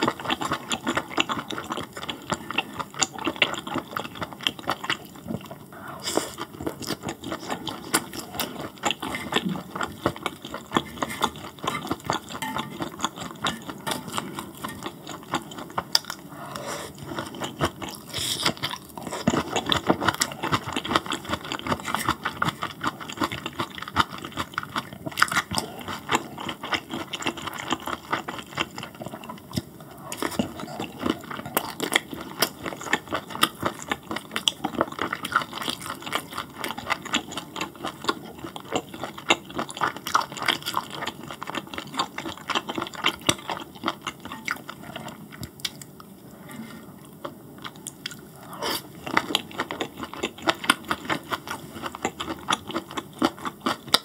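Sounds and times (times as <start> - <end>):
wet chewing: 0.0 - 46.2, 46.9 - 54.0.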